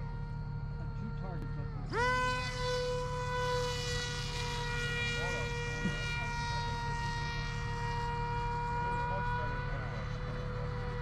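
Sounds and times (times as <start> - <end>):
model airplane motor whining: 0.0 - 11.0.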